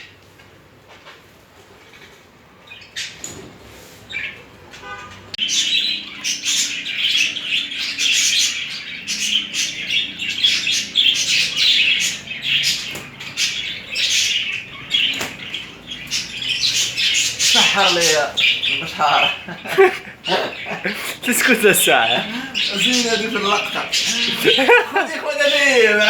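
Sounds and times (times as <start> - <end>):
budgerigars chattering and chirping: 2.7 - 3.4, 4.1 - 26.0.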